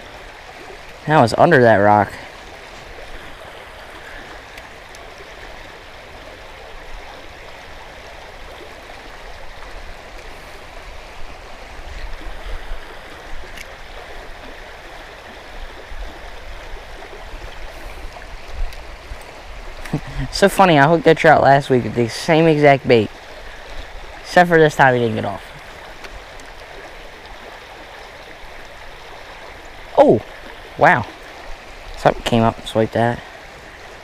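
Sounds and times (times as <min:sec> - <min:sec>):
creek water running over rocks: 0:00.0 - 0:34.0.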